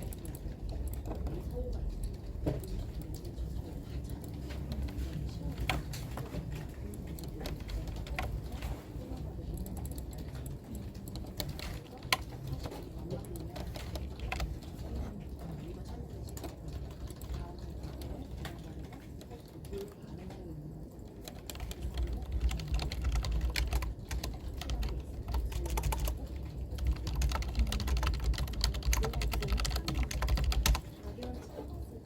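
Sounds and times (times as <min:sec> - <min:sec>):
computer keyboard typing: 0:00.0 - 0:32.0.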